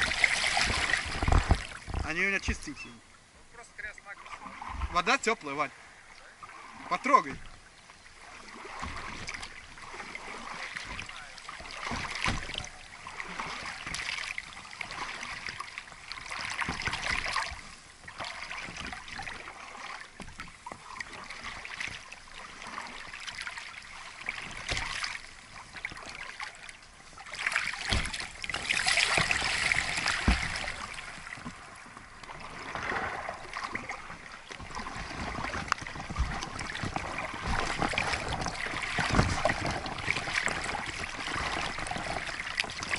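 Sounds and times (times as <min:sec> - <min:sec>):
water splashing from paddling: 0:00.0 - 0:42.9.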